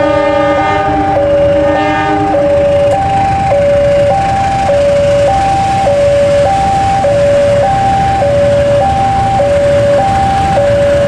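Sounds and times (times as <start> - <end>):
level-crossing two-tone alarm: 0.0 - 11.0
train rumbling: 0.0 - 11.0.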